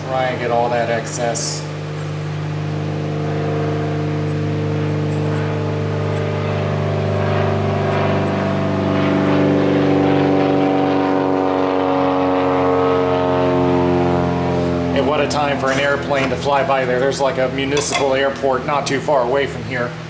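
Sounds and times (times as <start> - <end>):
airplane drone overhead: 0.0 - 20.0.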